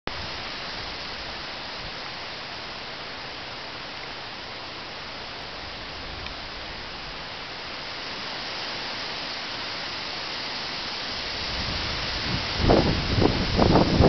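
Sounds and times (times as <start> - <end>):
wind rushing through trees: 0.1 - 14.0.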